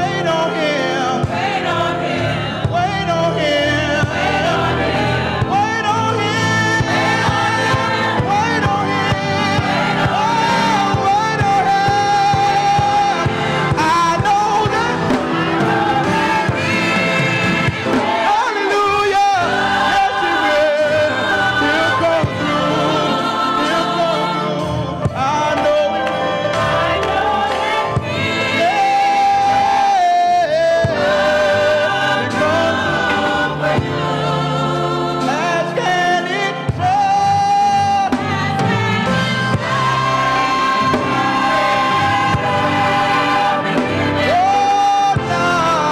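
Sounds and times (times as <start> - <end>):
gospel choir singing: 0.0 - 45.9
steady bass accompaniment: 0.0 - 45.9.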